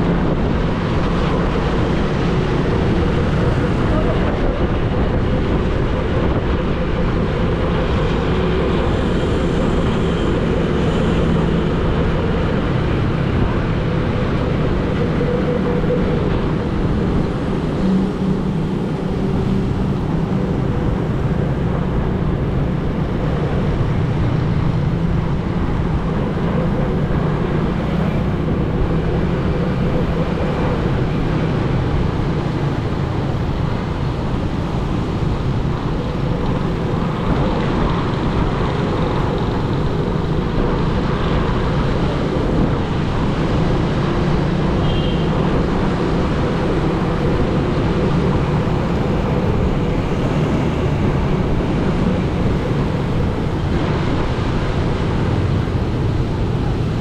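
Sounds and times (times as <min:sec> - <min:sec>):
vehicle road noise: 0:00.0 - 0:57.0.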